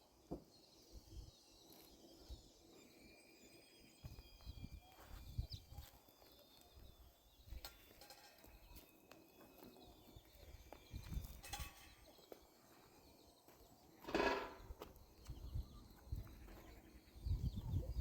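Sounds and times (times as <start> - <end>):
faint outdoor sounds: 0.0 - 18.0.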